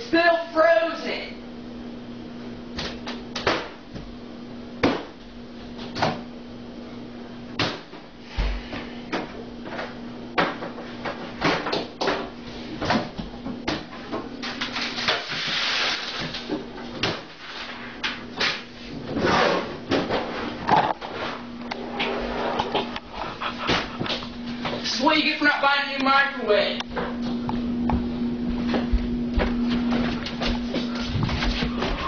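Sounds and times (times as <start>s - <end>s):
microwave oven humming: 0.0s - 32.0s.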